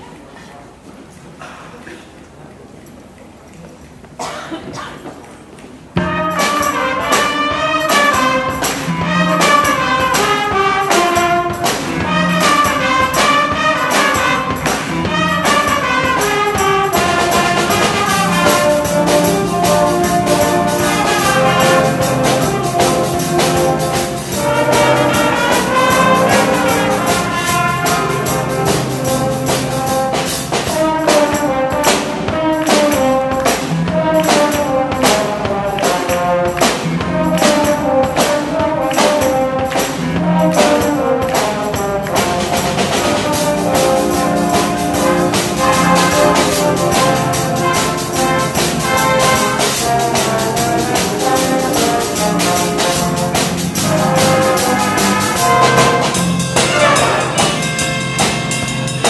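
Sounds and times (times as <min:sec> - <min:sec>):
band playing: 0:06.0 - 0:59.0
cymbals ticking: 0:06.0 - 0:59.0
trumpets: 0:06.0 - 0:59.0.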